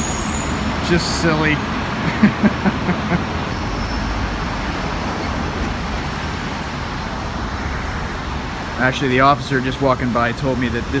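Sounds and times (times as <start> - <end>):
road traffic rushing hum: 0.0 - 11.0.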